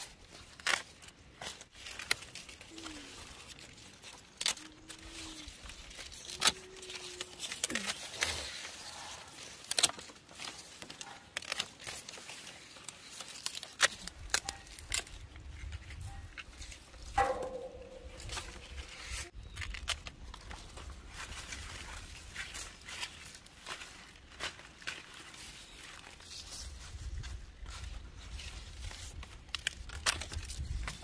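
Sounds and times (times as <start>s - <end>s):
crinkling and tearing: 0.0s - 31.0s.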